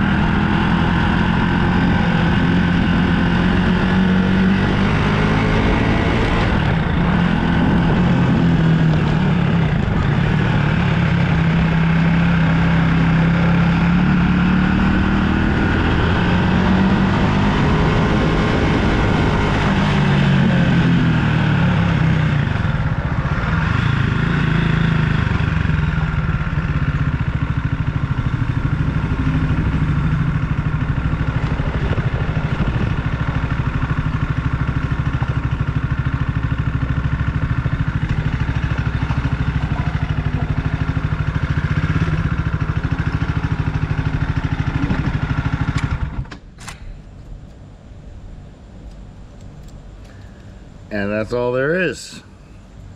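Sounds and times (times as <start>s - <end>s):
motorbike engine revving: 0.0s - 46.3s.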